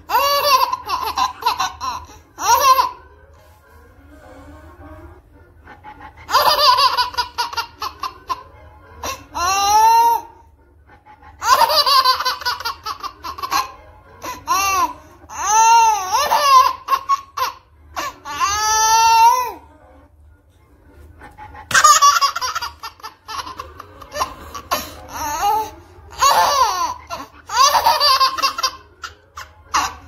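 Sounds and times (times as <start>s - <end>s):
baby laughing: 0.0s - 3.1s, 6.1s - 10.4s, 11.3s - 19.6s, 21.6s - 30.0s.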